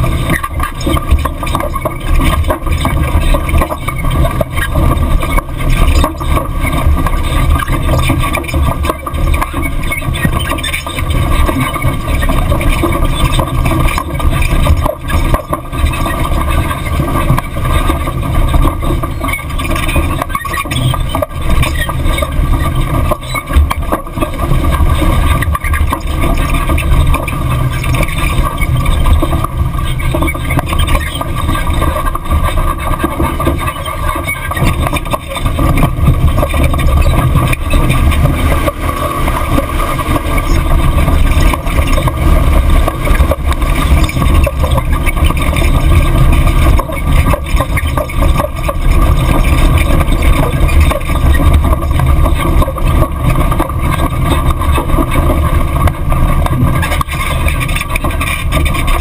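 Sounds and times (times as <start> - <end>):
suspension and gravel rattles: 0.0 - 59.0.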